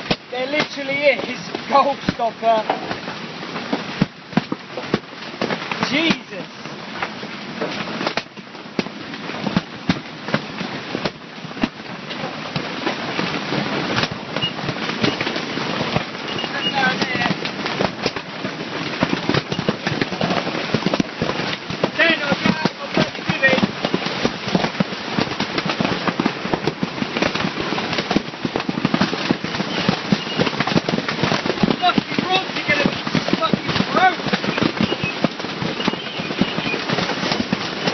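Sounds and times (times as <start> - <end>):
hail rushing hiss: 0.0 - 37.9
hailstones hitting hard cracks: 0.0 - 37.9.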